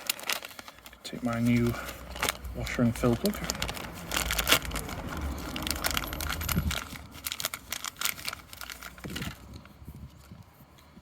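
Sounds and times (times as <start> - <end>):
packaging crinkling and tearing: 0.0 - 10.6.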